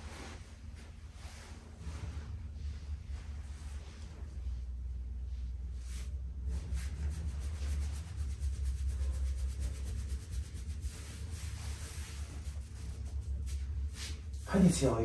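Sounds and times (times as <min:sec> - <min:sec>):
hands rubbing over clothing: 0:00.0 - 0:14.8
steady low hum: 0:00.0 - 0:15.0.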